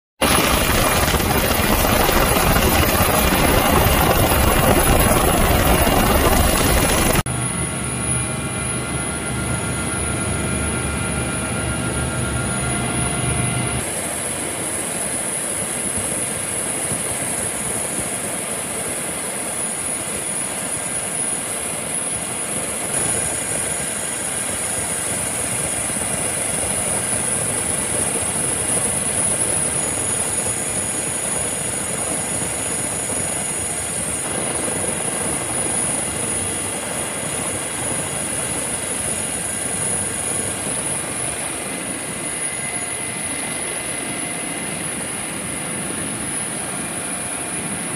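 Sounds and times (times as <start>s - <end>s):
helicopter rotor: 0.2s - 47.9s
high turbine whine: 0.2s - 47.9s.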